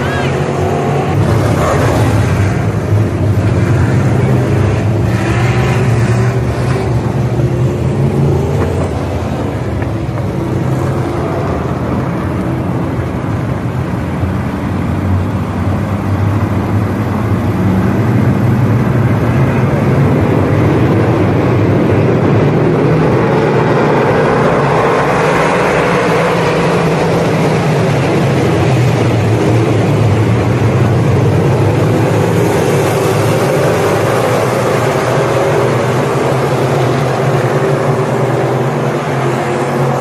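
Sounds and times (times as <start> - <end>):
race car engines droning: 0.0 - 40.0.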